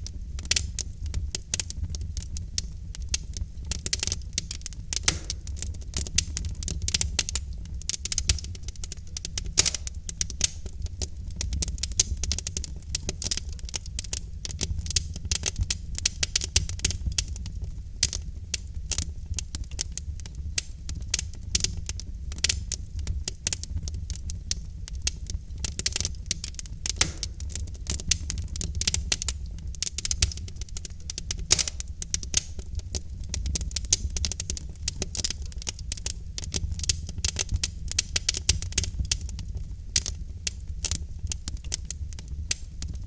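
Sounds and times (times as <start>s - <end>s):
low rumble of flames: 0.0s - 43.0s
wood fire crackling: 0.0s - 43.0s.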